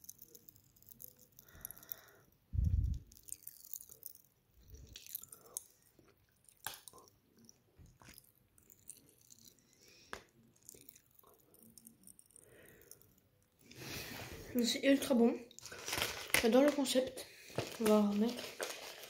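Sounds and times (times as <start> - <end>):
chewing and crunching candy: 0.0 - 19.0.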